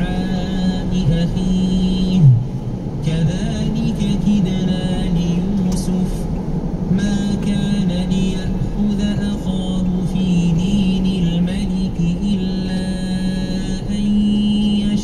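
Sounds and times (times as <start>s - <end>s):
man chanting recitation: 0.0s - 2.4s, 3.0s - 6.2s, 6.9s - 15.0s
low road hum: 0.0s - 15.0s.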